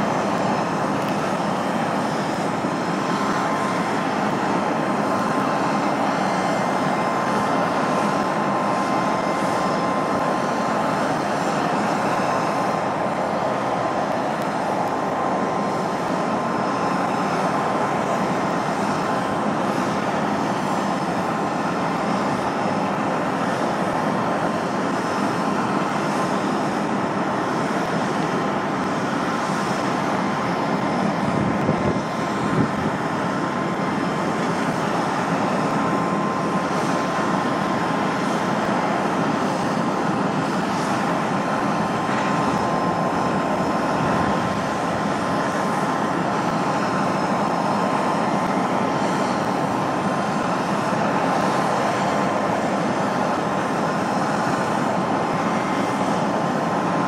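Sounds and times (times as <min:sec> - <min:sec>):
aircraft machinery rush: 0:00.0 - 0:57.0
constant whining tone: 0:00.0 - 0:57.0.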